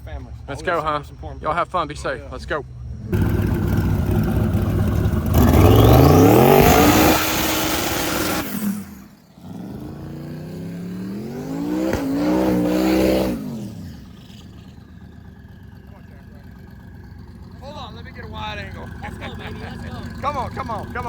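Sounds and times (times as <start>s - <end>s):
race car engine revving: 2.3s - 21.0s.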